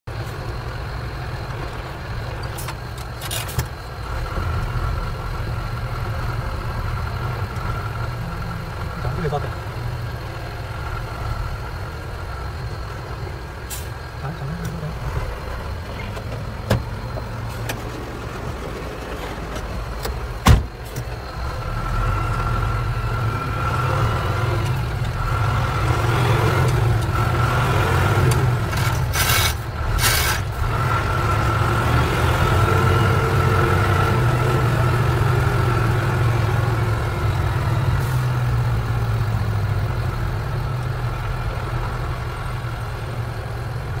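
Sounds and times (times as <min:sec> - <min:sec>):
truck engine drone: 0:00.0 - 0:44.0.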